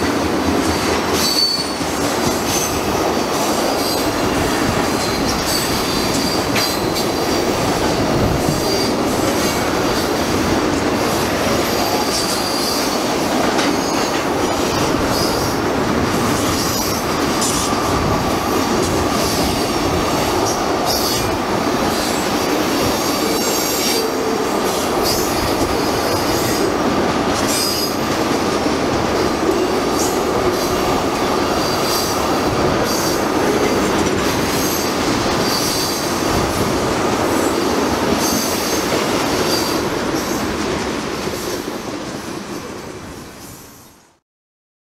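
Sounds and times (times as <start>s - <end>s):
train wheels rumbling on rail: 0.0s - 44.2s.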